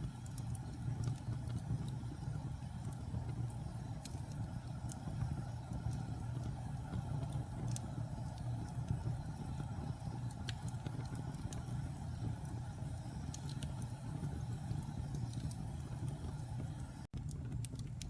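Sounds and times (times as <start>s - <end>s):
fire crackling and popping: 0.0s - 18.0s
fire rumbling in fireplace: 0.0s - 18.0s.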